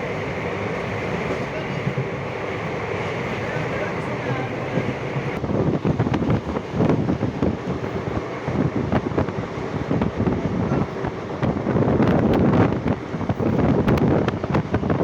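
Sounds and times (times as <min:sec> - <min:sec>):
train coaches rumbling: 0:00.0 - 0:15.0
wind buffeting microphone: 0:00.0 - 0:15.0.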